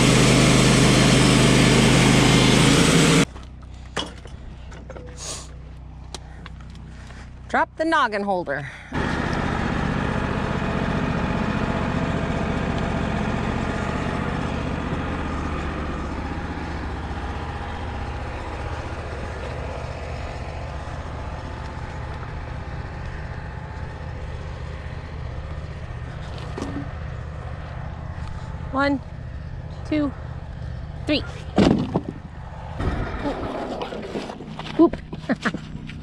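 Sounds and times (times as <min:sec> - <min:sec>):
sawmill engine running: 0:00.0 - 0:07.5, 0:08.9 - 0:36.0.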